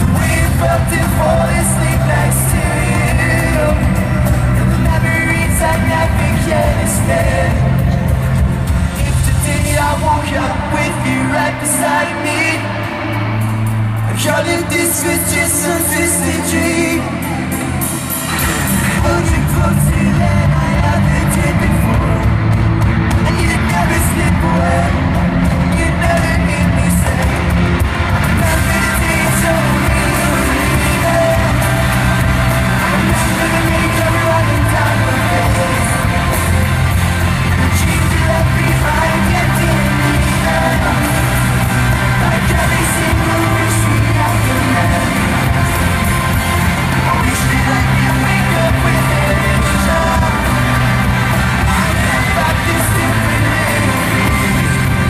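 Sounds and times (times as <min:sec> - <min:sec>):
crowd yelling: 0:00.0 - 0:55.0
live rock band playing: 0:00.0 - 0:55.0
person singing: 0:00.0 - 0:55.0.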